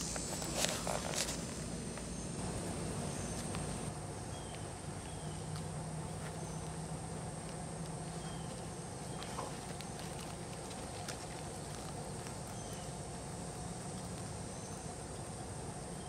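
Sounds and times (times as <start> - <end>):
insect drone: 0.0 - 16.0
low hum: 0.0 - 16.0.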